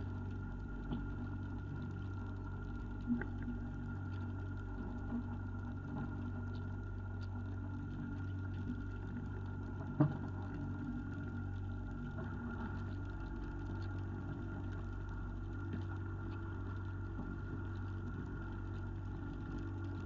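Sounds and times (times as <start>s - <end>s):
thin steady whine: 0.0s - 20.0s.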